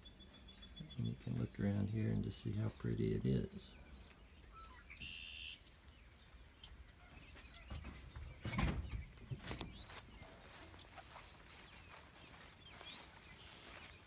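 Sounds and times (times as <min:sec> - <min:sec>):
bird calls and chirps: 0:00.0 - 0:14.0.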